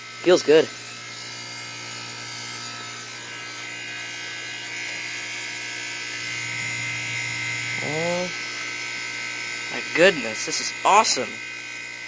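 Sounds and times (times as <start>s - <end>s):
compressor humming and buzzing: 0.0s - 12.0s.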